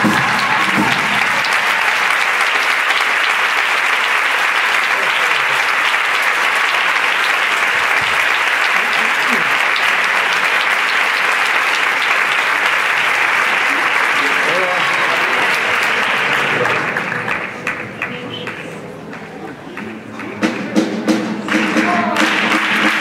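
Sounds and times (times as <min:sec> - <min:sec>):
audience applauding loudly: 0:00.0 - 0:23.0.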